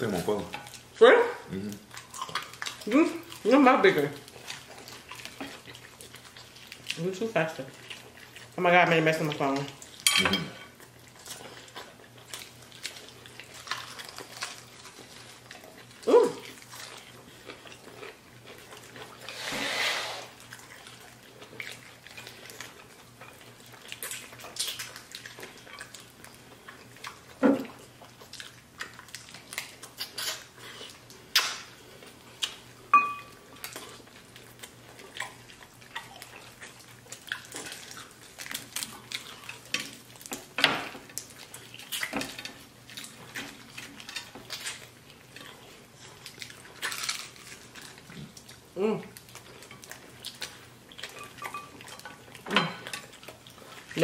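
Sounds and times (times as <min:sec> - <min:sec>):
wet chewing and lip smacking: 0:01.6 - 0:10.0, 0:10.7 - 0:19.3, 0:20.3 - 0:54.0.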